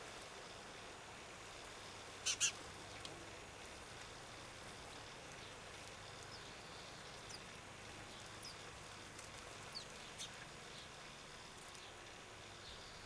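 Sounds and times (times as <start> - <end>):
faint background hiss: 0.0 - 13.0
birds chirping: 2.2 - 13.0.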